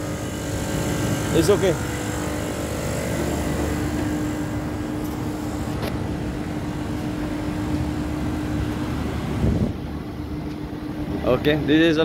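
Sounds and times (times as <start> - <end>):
chiller compressor hum: 0.0 - 12.0
constant tone: 0.0 - 12.0.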